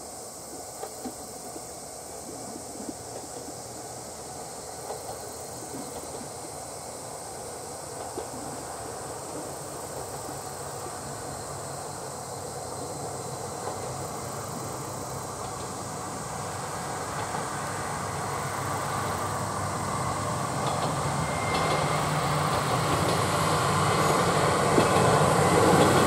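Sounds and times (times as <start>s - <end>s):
diesel railcar approaching: 0.0s - 26.0s
insects buzzing: 0.0s - 26.0s.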